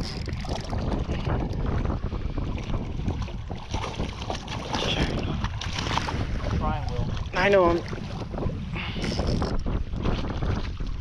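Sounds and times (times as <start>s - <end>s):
water noise: 0.0s - 11.0s
wind buffeting microphone: 0.0s - 11.0s.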